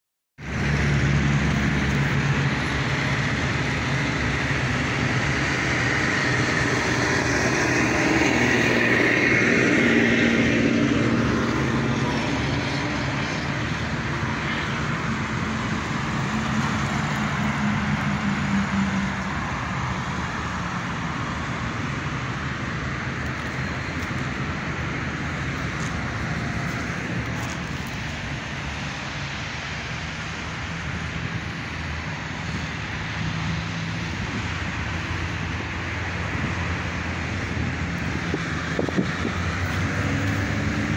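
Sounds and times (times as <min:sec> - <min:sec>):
vehicle engine: 0:00.4 - 0:40.9.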